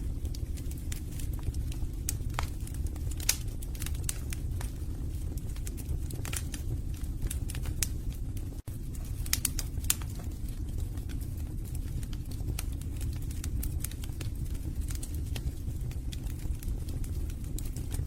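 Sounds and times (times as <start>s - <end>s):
burning wood crackling and popping: 0.0s - 18.0s
fire rumbling in fireplace: 0.0s - 18.0s.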